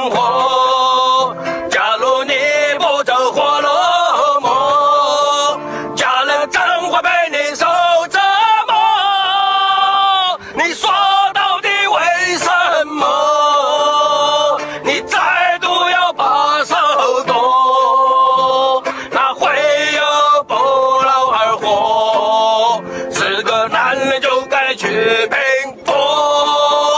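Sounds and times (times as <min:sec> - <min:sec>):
backing music: 0:00.0 - 0:26.9
man singing: 0:00.0 - 0:26.9.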